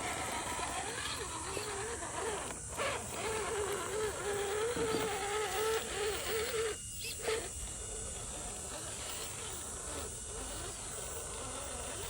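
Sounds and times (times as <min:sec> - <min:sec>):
electric motor and gearing whining: 0:00.0 - 0:12.0.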